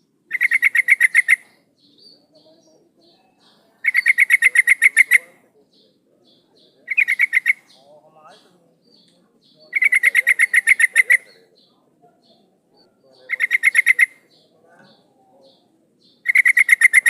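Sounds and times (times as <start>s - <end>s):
soft bird chirps: 0.0s - 17.0s
bird rapid chattering call: 0.3s - 17.0s.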